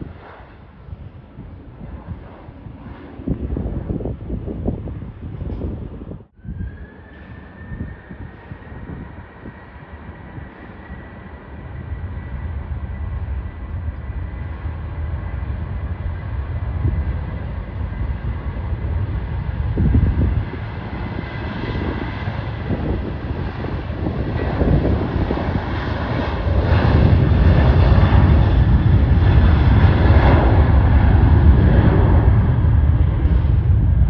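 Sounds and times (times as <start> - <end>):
jet airliner engines rumbling: 0.0 - 34.0.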